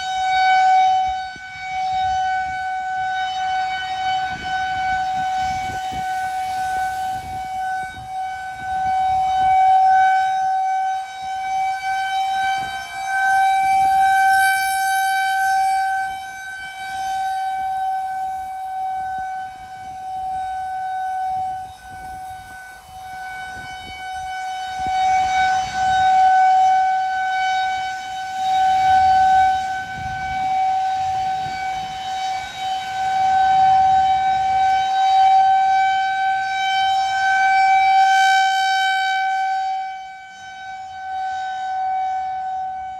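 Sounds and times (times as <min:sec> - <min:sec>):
rotating warning siren steady tone: 0:00.0 - 0:42.9.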